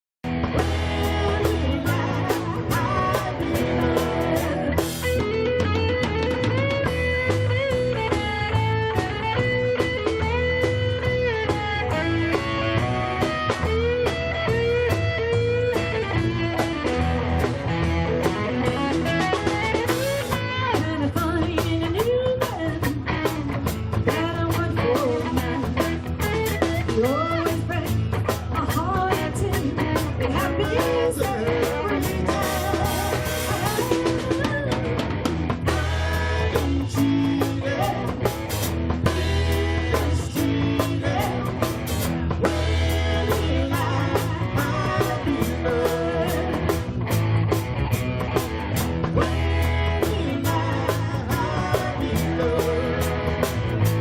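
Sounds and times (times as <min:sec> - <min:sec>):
drum kit beat: 0:00.2 - 0:54.0
guitar: 0:00.2 - 0:54.0
live rock band playing: 0:00.2 - 0:54.0.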